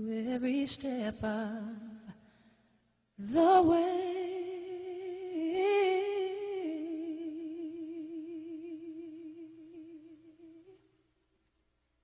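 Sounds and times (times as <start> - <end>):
woman singing with vibrato: 0.0 - 2.1, 3.2 - 11.0.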